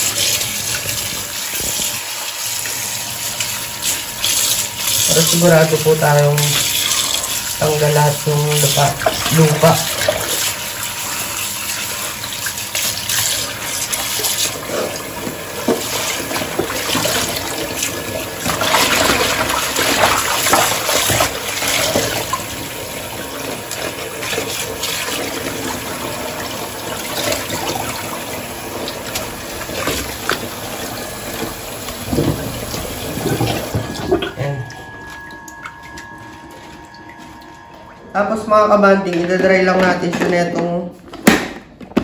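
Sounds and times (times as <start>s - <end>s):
kitchen tap running into sink: 0.0s - 35.9s.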